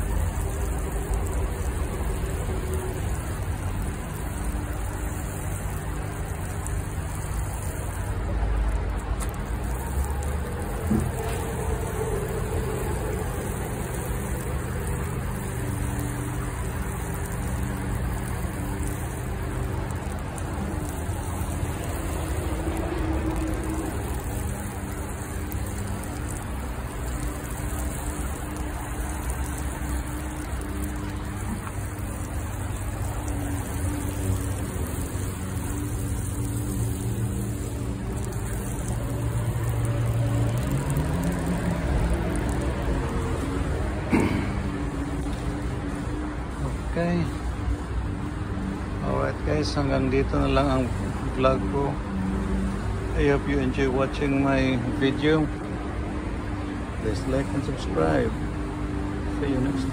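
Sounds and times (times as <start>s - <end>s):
low engine hum: 0.0s - 59.9s
water pouring onto soil: 0.0s - 59.9s.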